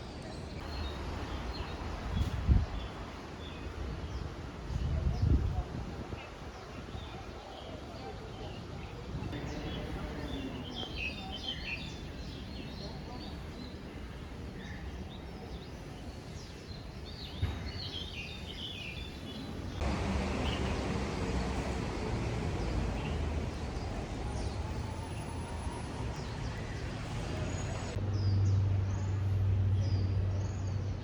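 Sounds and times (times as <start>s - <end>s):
outdoor background noise: 0.0s - 31.0s
small birds chirping: 6.2s - 31.0s.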